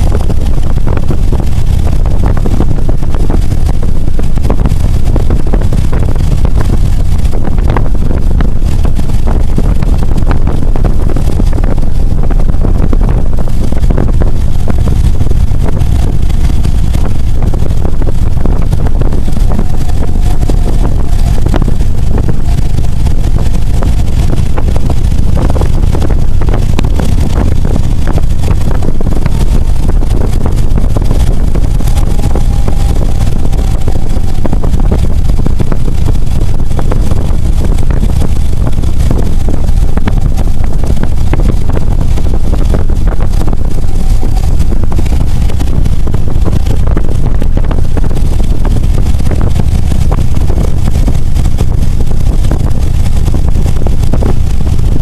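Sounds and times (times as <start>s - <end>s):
motorcycle engine cruising: 0.0s - 54.9s
wind rush on microphone: 0.0s - 55.0s.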